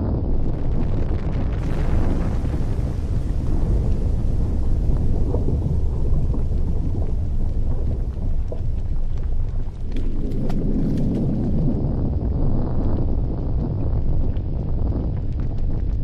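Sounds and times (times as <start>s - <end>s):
sharp crackles and pops: 0.0s - 16.0s
volcano deep rumbling roar: 0.0s - 16.0s.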